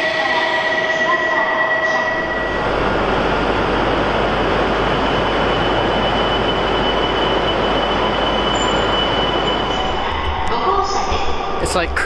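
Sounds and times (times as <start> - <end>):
bullet train rushing with whine: 0.0 - 12.0.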